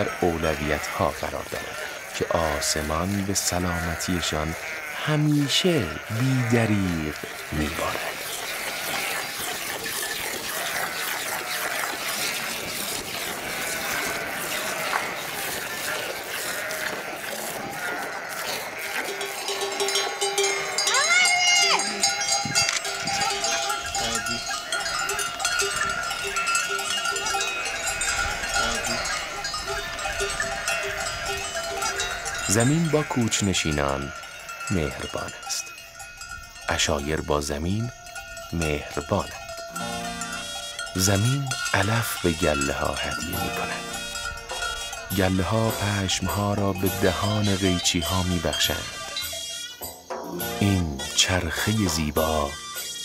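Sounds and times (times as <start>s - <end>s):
livestock bells clanking: 0.0s - 53.0s.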